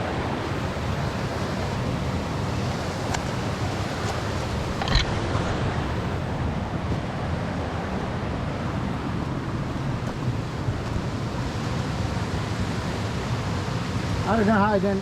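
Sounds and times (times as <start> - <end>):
wind buffeting microphone: 0.0 - 14.4
creek and small waterfalls rushing: 0.0 - 15.0.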